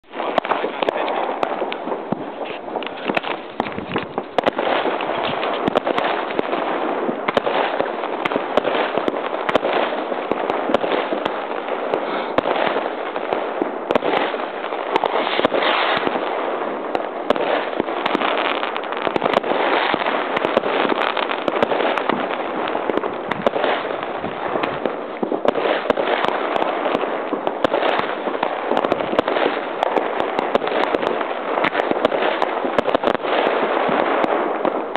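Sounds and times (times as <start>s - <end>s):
fireworks firing rapidly: 0.0s - 34.9s.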